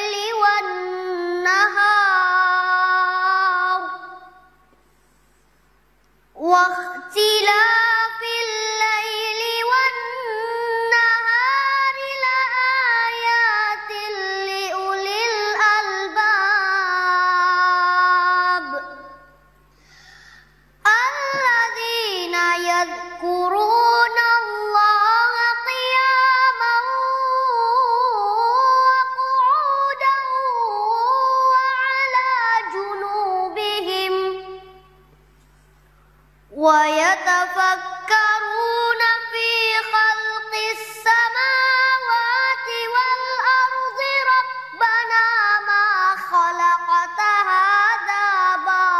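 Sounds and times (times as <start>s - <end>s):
child singing unaccompanied: 0.0s - 4.5s, 6.3s - 19.3s, 20.8s - 34.8s, 36.5s - 48.9s.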